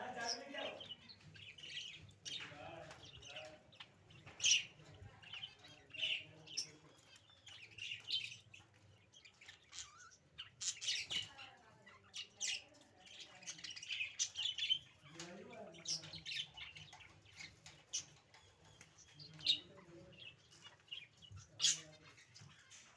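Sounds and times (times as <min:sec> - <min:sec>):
budgerigars chirping: 0:00.0 - 0:22.9.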